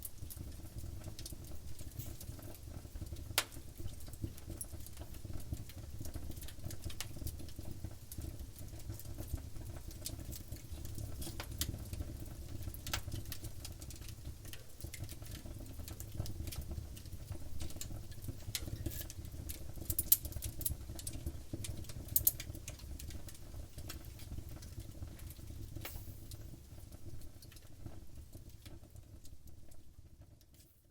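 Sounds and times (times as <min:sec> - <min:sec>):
campfire crackling and popping: 0:00.0 - 0:30.6
rumble of flames: 0:00.1 - 0:30.6.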